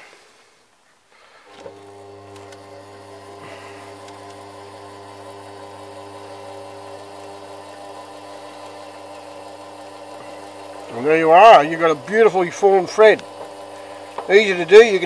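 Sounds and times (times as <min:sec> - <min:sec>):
metal lathe motor hum: 0:01.6 - 0:15.0.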